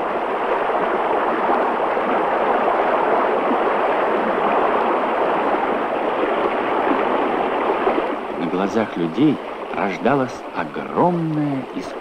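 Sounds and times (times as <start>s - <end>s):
water rushing down rocky channel: 0.0s - 12.0s.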